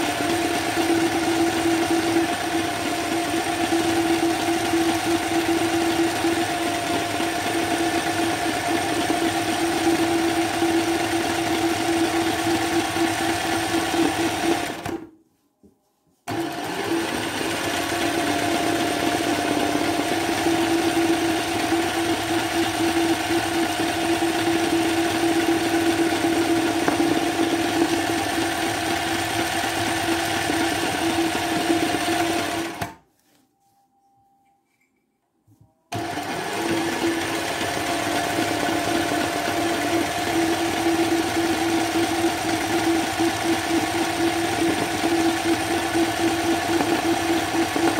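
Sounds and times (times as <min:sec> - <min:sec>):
sewing machine whirring: 0:00.0 - 0:15.1, 0:16.3 - 0:33.0, 0:35.9 - 0:47.9.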